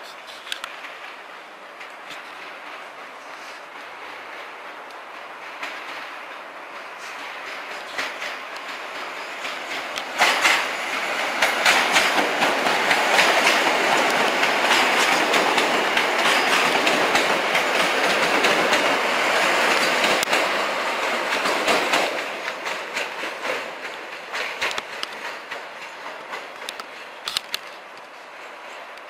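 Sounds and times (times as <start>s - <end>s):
train passing: 0.0s - 29.0s
wheels clacking over rail joints: 0.0s - 29.0s.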